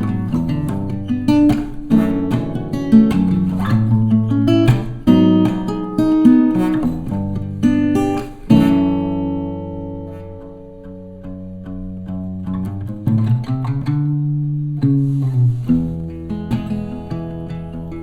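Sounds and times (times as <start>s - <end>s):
guitar plucked and strummed: 0.0s - 18.0s.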